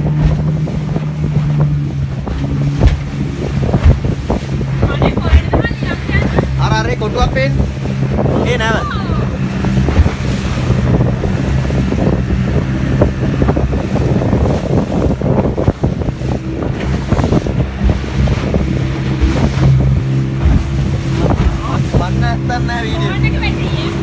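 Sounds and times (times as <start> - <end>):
motorboat engine humming: 0.0 - 24.0
water splashing against hull: 0.0 - 24.0
wind buffeting microphone: 0.0 - 24.0.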